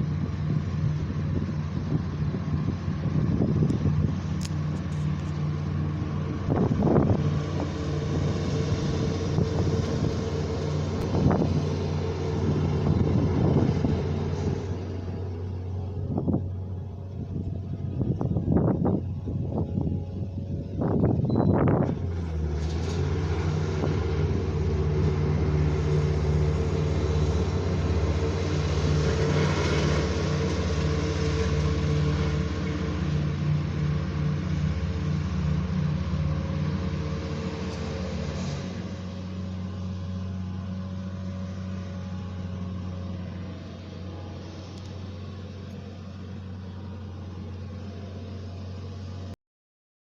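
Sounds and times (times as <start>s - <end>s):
engine humming: 0.0s - 49.4s.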